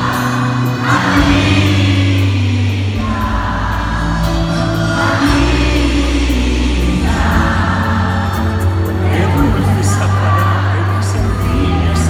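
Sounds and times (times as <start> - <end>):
live pop band playing: 0.0 - 12.0.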